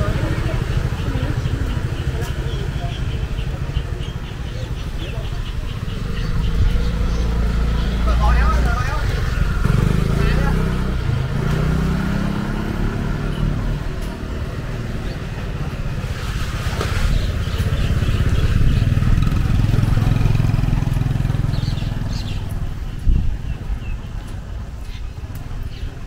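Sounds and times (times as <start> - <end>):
motor scooter engines: 0.0 - 26.0.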